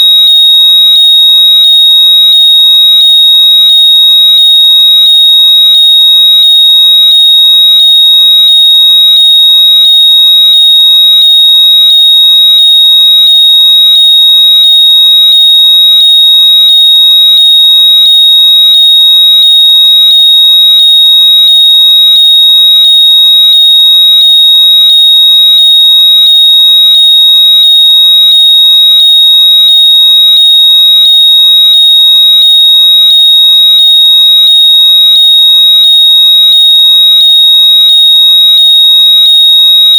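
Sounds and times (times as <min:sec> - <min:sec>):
high-pitched electronic locator tone: 0:00.0 - 0:39.9.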